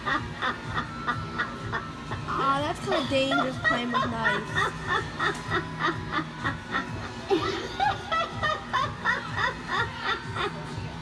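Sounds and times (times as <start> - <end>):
recorded giggling laughs: 0.0 - 11.0.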